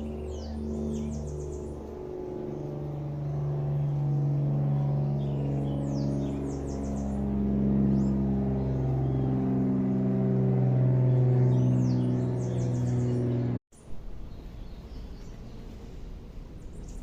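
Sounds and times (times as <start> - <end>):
bird chirping: 0.0 - 1.9, 3.2 - 16.0
slow sustained low music: 0.0 - 17.0.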